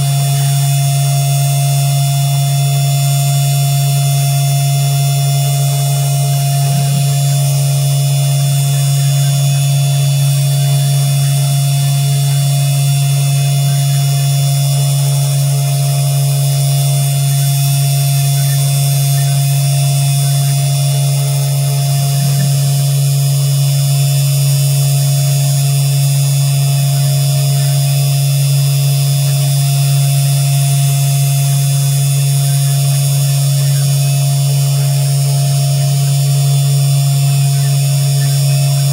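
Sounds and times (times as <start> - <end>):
spindle motor hum and whine: 0.0 - 38.9.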